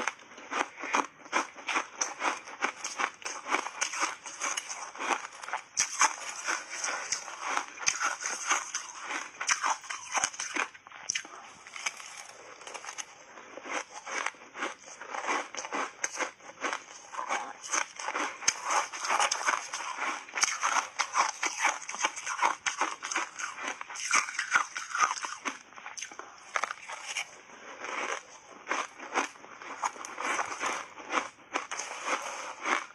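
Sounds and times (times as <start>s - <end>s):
crunching and chewing ice: 0.0s - 32.9s.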